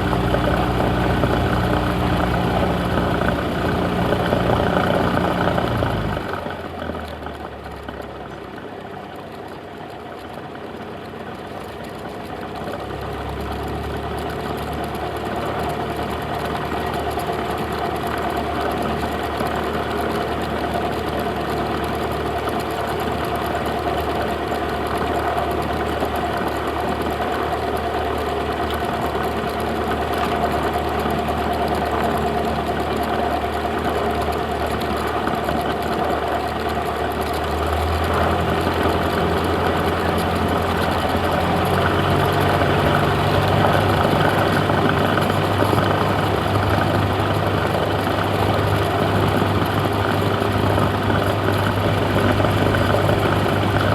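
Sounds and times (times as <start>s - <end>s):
propeller plane engine droning: 0.0s - 53.9s.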